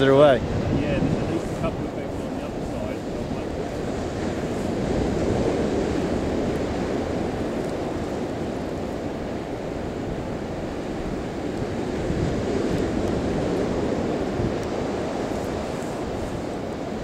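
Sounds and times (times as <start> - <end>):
sea surf on beach: 0.0 - 17.0
wind buffeting microphone: 0.0 - 17.0.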